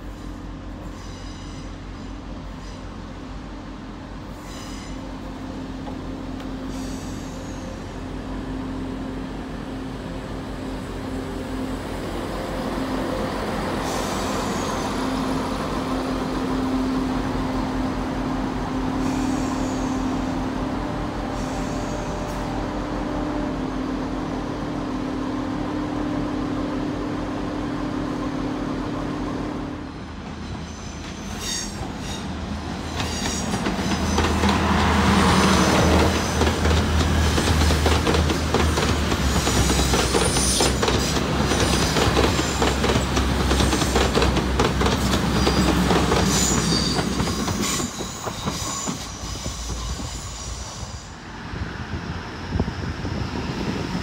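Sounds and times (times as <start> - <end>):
train engine hum: 0.0 - 54.0.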